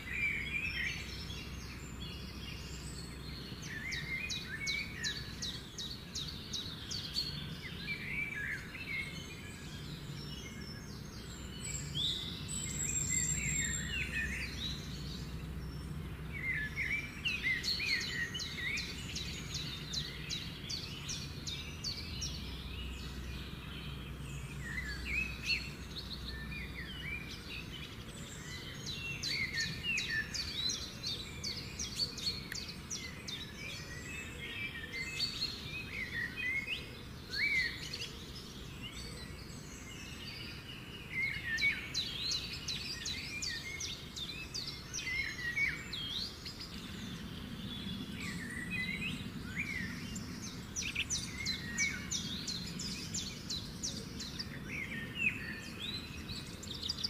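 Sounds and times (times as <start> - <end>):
low steady background noise: 0.0 - 57.0
wild birds chirping: 0.0 - 57.0.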